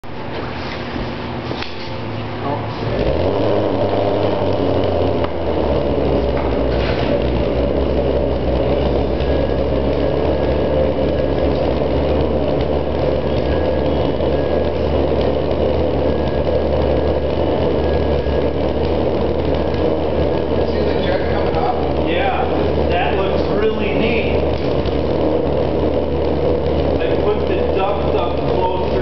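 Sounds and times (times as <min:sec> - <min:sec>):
pulse jet engine buzzing drone: 0:00.0 - 0:29.0.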